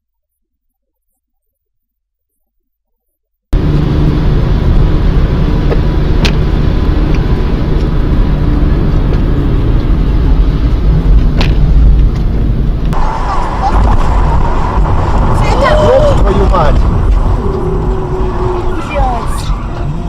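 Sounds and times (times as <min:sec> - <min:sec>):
vehicle engine and road noise: 0:03.5 - 0:20.0.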